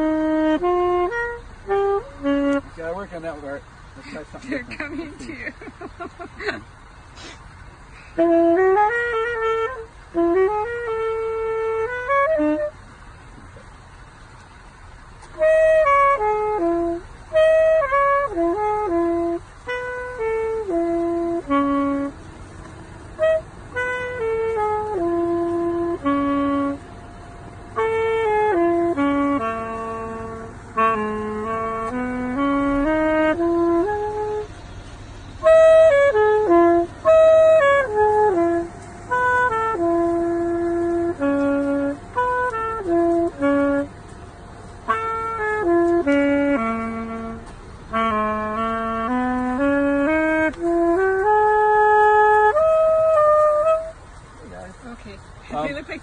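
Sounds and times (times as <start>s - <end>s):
flute melody: 0.0s - 3.6s, 8.1s - 13.6s, 15.1s - 54.4s
wind instrument slow tune: 0.0s - 5.3s, 6.4s - 13.7s, 15.1s - 54.4s.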